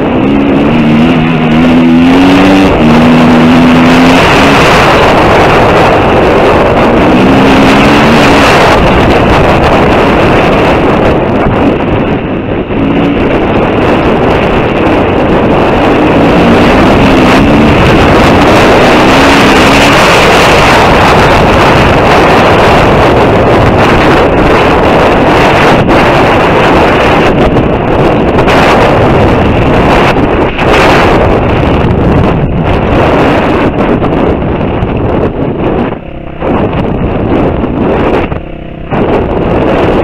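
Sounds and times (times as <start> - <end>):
motorcycle engine revving: 0.0 - 40.0
wind buffeting microphone: 0.0 - 40.0.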